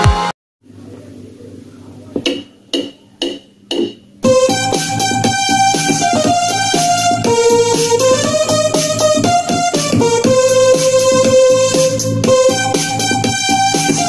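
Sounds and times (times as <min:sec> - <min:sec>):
soft keyboard notes: 0:00.7 - 0:14.0
keyboard melody over backing beat: 0:02.2 - 0:14.0.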